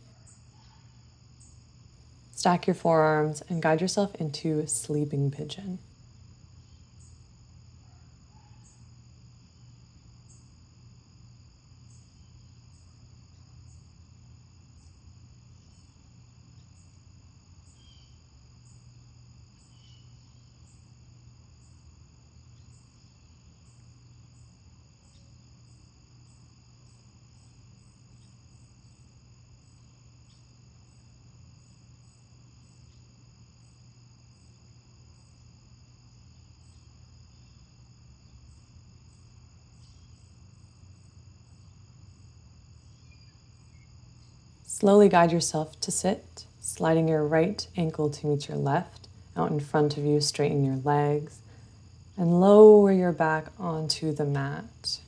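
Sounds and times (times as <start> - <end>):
crickets chirping: 0.0 - 55.0
faint low hum: 0.0 - 55.0.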